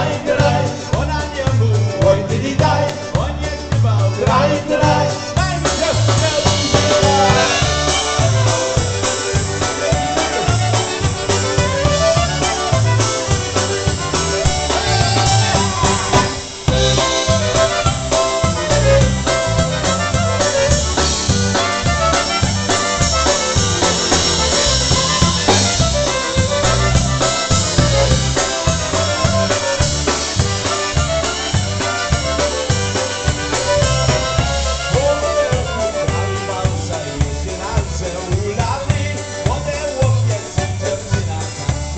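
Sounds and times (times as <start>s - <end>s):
polka band playing: 0.0s - 41.9s.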